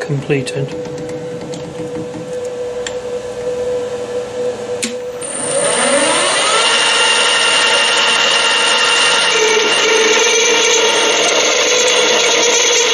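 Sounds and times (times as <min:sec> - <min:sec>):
metal lathe humming: 0:00.0 - 0:12.9
motor whine rising: 0:00.0 - 0:12.9.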